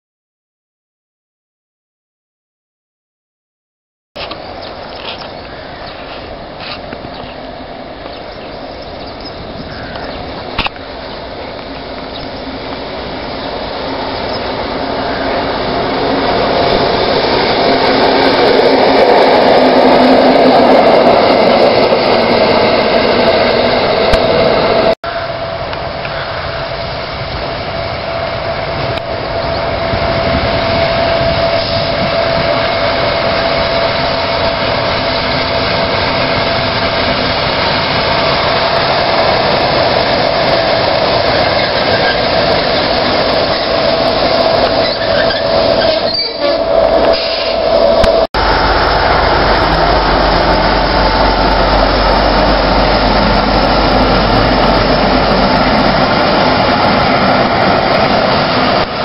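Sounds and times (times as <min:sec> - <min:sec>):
diesel locomotive engine passing: 0:04.3 - 0:59.0.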